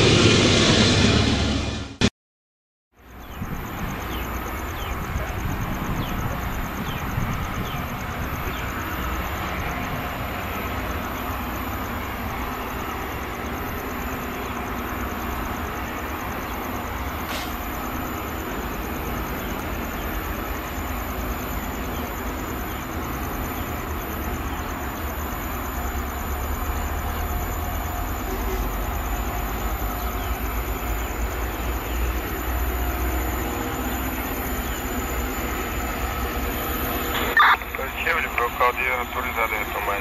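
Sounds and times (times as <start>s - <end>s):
diesel locomotive engine rumble: 0.0s - 2.1s, 3.0s - 40.0s.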